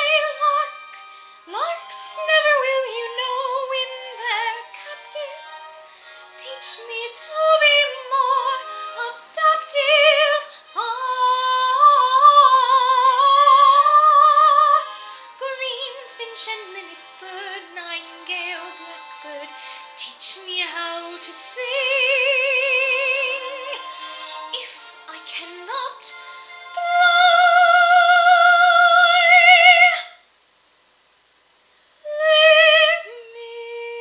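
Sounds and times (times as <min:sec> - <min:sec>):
woman singing with vibrato: 0:00.0 - 0:30.2, 0:32.0 - 0:34.0.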